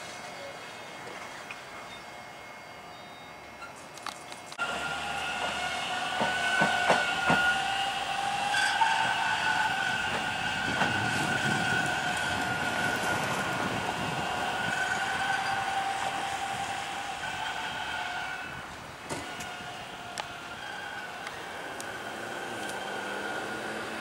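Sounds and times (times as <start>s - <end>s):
subway train high-pitched whine: 0.0s - 24.0s
wheels clacking over rail joints: 3.6s - 24.0s.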